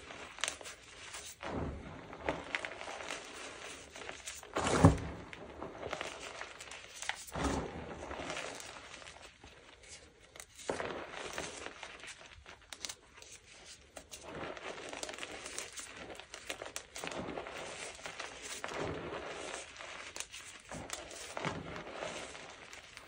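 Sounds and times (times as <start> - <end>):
chalk crunching and crackling: 0.0 - 1.5, 2.2 - 5.0, 5.6 - 23.0.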